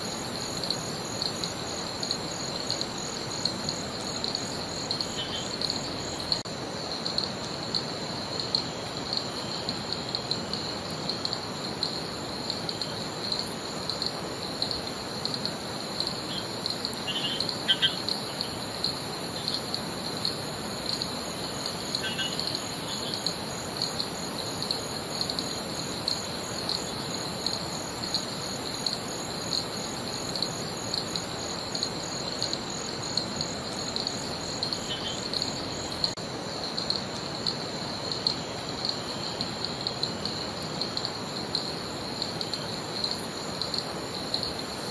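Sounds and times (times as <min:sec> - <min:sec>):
constant hiss: 0:00.0 - 0:44.9
insects chirping chorus: 0:00.0 - 0:44.9.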